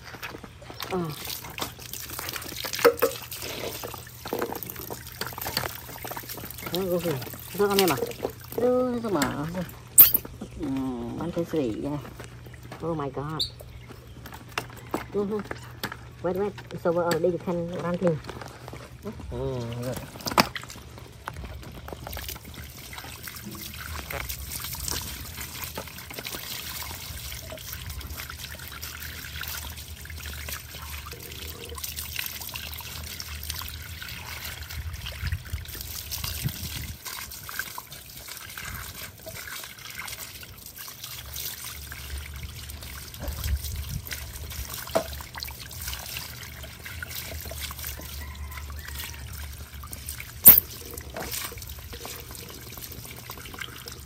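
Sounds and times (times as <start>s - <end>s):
water from hose splashing: 0.0s - 54.0s.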